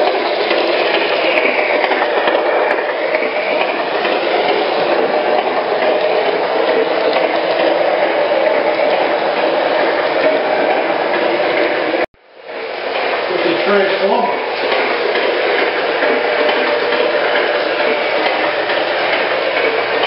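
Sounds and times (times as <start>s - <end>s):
faint locomotive whine: 0.0s - 20.0s
model train wheels rumbling: 0.0s - 20.0s.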